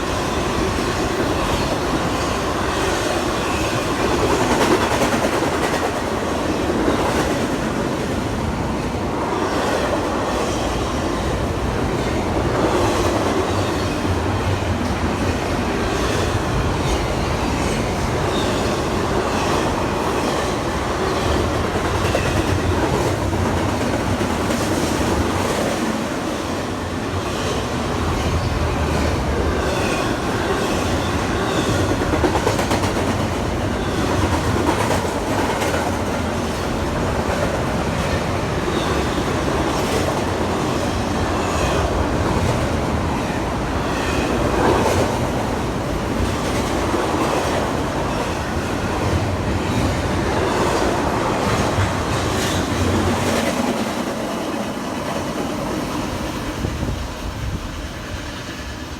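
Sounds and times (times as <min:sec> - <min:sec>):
train rumbling past: 0:00.0 - 0:58.9.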